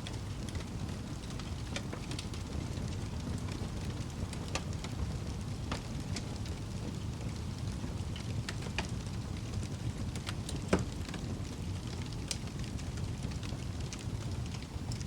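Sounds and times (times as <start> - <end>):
fire popping: 0.0 - 15.0
fire rumbling: 0.0 - 15.0.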